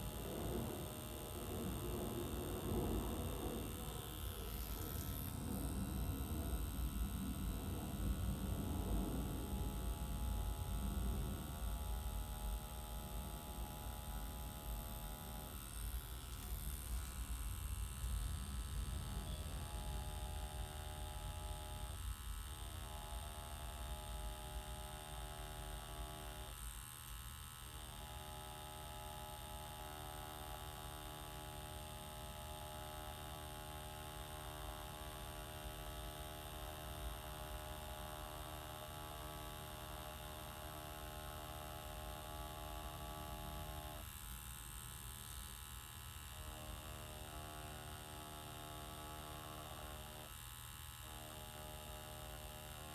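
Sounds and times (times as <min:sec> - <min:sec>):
tattoo machine humming: 0:00.0 - 0:52.9.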